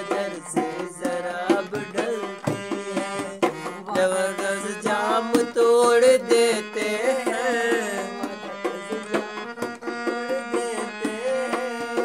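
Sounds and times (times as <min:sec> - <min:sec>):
dholak drumming: 0:00.0 - 0:12.0
harmonium melody: 0:00.0 - 0:12.0
person singing: 0:00.0 - 0:12.0.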